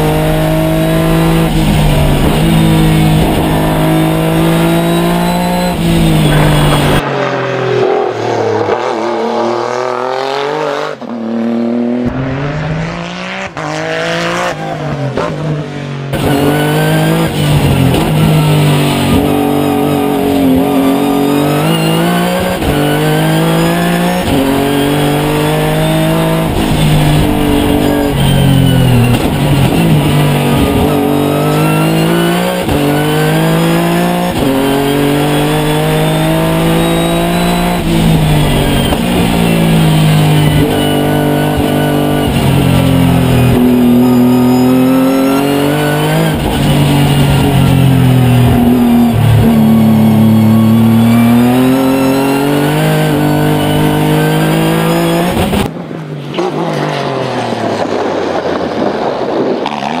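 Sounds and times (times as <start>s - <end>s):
car engine accelerating and shifting: 0.0s - 60.0s.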